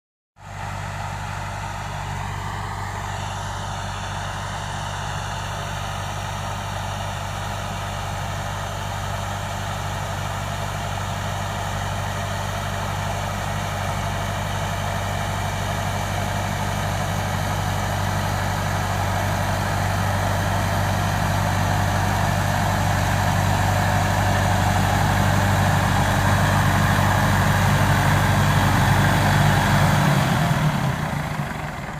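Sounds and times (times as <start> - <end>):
tractor engine running: 0.4 - 31.9.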